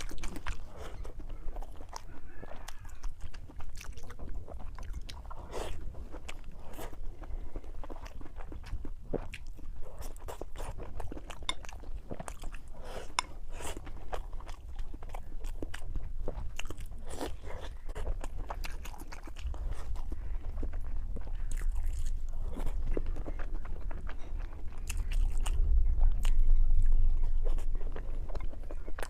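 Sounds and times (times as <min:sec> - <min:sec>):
person chewing crunchy food: 0:00.0 - 0:29.0.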